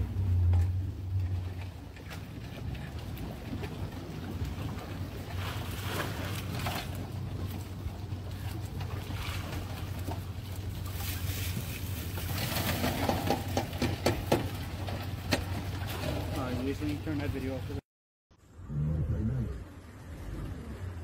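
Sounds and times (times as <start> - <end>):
outboard motor running: 0.0 - 17.8.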